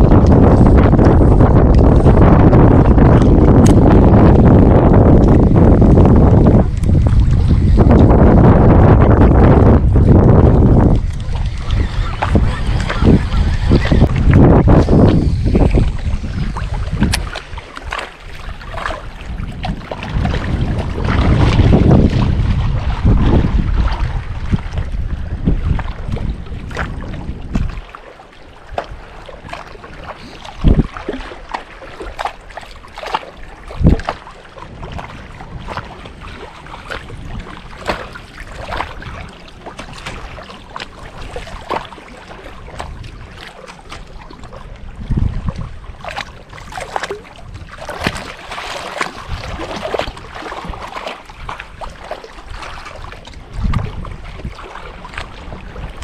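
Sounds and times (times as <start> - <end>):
knocks and thumps on boat: 0.0 - 27.9, 28.7 - 56.0
waves lapping against boat hull: 0.0 - 56.0
wind buffeting microphone: 0.0 - 56.0.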